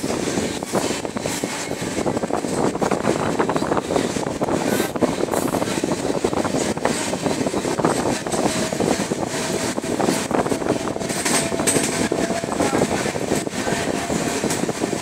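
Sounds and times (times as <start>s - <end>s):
train wheels rumbling and rattling: 0.0s - 15.0s.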